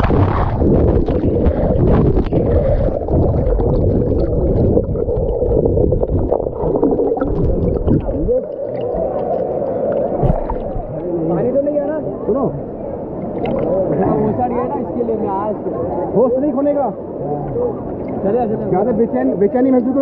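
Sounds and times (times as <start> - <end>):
muffled water churning and gurgling: 0.0 - 19.6.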